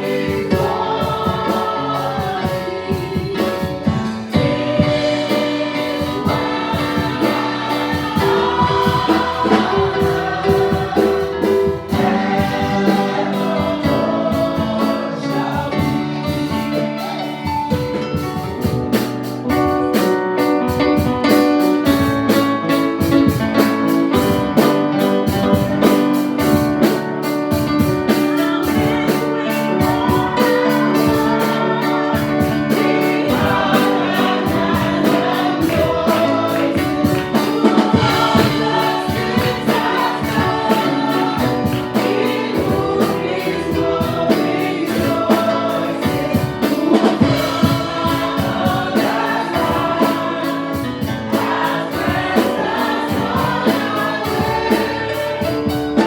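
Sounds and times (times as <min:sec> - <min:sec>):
gospel choir singing: 0:00.0 - 0:56.0
keyboard and band accompaniment: 0:00.0 - 0:56.0.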